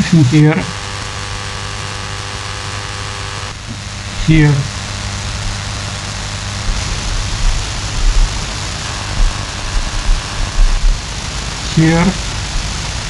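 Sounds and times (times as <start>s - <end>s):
radio static hiss: 0.0s - 13.0s
low interference thumps: 0.7s - 13.0s.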